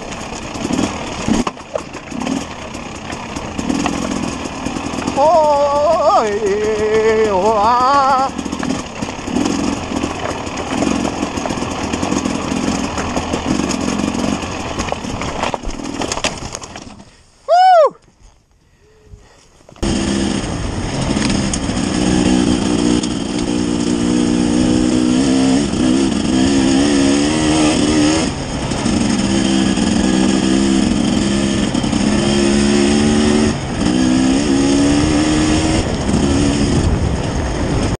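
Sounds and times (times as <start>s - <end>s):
motorcycle engine revving: 0.0s - 17.0s, 19.8s - 38.0s.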